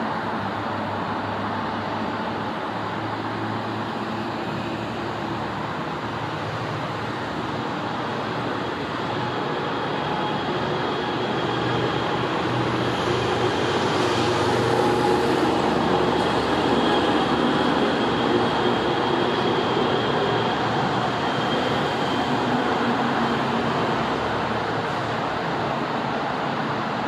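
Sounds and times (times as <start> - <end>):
distant traffic rumble: 0.0 - 27.0.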